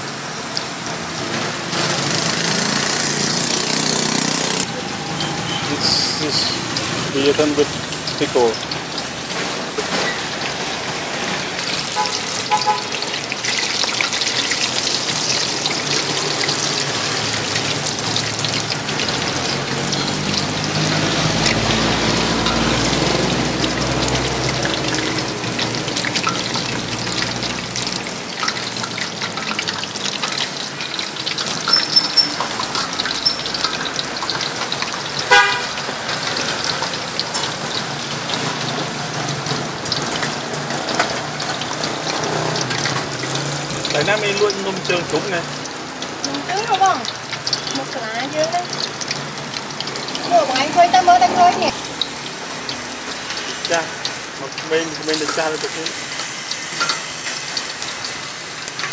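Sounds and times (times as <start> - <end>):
food deep-frying in hot oil: 0.0 - 58.9
street traffic rumbling: 0.0 - 58.9.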